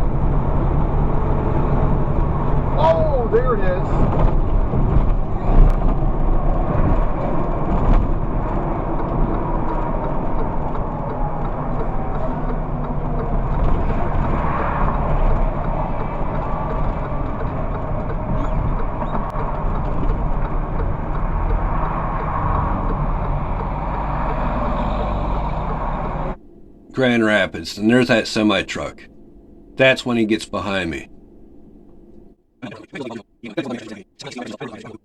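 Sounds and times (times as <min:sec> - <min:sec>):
car road and engine noise: 0:00.0 - 0:32.6.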